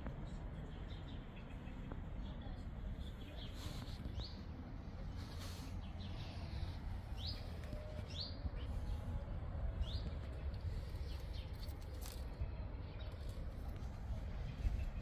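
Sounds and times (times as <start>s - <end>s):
songbird chirping: 0.0s - 15.0s
steady low rumble: 0.0s - 15.0s.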